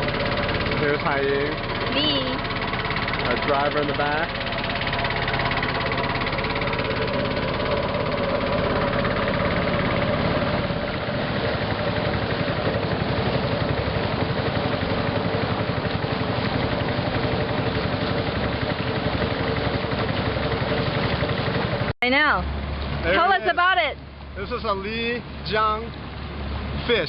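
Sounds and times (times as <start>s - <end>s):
small boat engine running: 0.0s - 27.0s.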